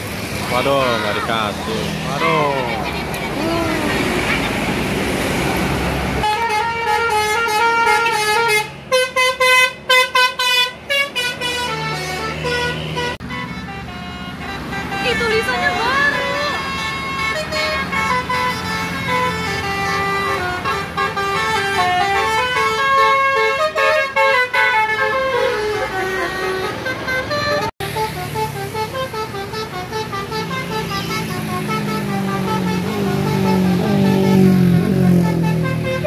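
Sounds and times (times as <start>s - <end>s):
bus musical horn melody: 6.2s - 36.0s.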